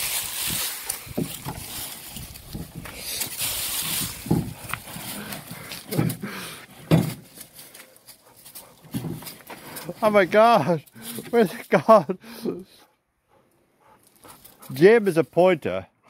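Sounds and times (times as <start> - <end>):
rustling: 0.0 - 11.7, 12.8 - 14.9.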